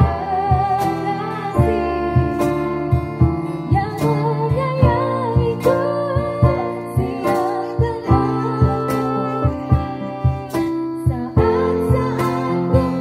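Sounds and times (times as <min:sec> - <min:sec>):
guitar strumming: 0:00.0 - 0:13.0
held keyboard chords: 0:00.0 - 0:13.0
soft percussion beat: 0:00.0 - 0:13.0
woman singing with vibrato: 0:00.0 - 0:13.0.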